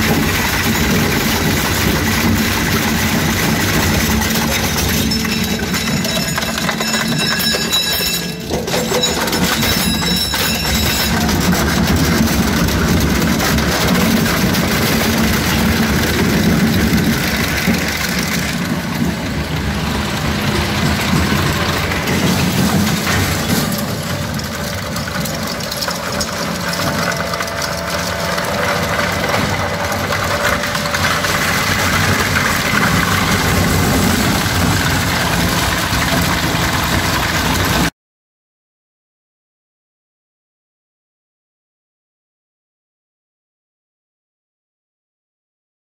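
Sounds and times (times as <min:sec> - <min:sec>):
shredder grinding scrap: 0:00.0 - 0:37.9.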